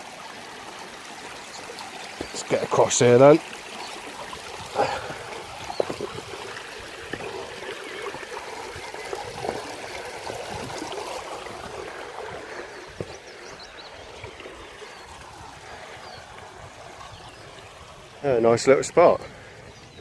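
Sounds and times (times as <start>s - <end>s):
stream trickling over stones: 0.0s - 20.0s.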